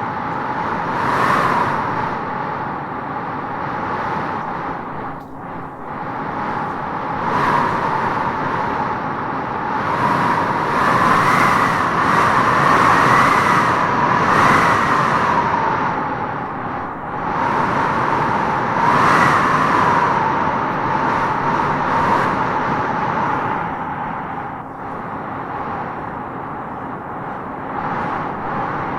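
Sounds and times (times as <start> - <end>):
wind howling through trees: 0.0 - 28.9.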